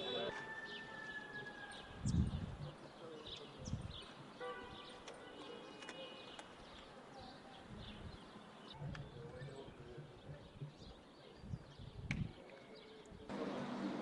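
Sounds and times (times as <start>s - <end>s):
small birds chirping: 1.6s - 13.3s.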